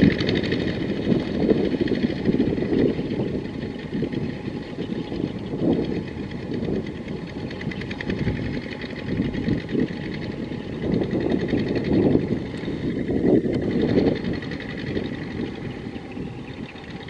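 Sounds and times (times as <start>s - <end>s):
diesel engine knocking: 0.0s - 17.0s.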